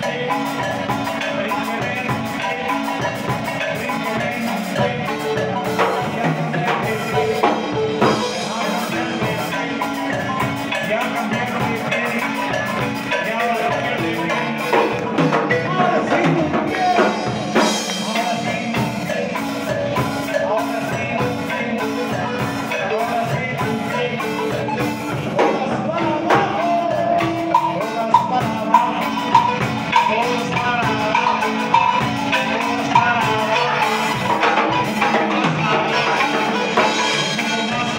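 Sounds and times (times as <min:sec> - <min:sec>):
drum kit beat: 0:00.0 - 0:37.9
marimba played with mallets: 0:00.0 - 0:37.9.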